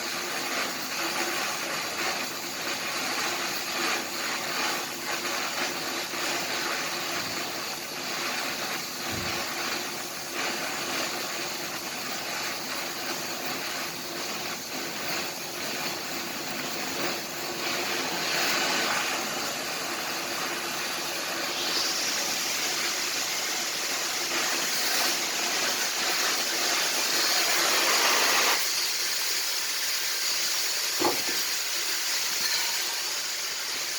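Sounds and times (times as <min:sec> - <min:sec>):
welding arc hissing and crackling: 0:00.0 - 0:33.9.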